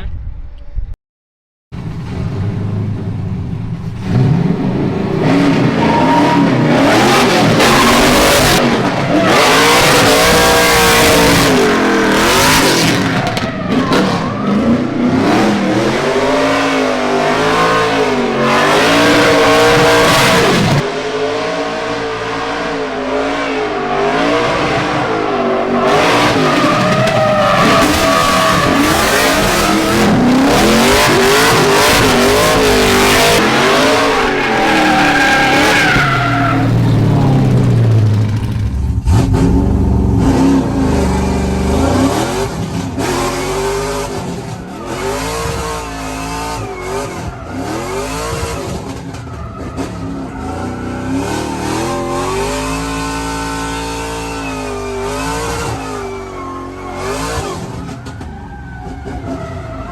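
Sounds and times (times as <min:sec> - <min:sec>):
car engine revving: 0:01.8 - 0:59.9
tyres squealing and skidding: 0:04.2 - 0:59.9.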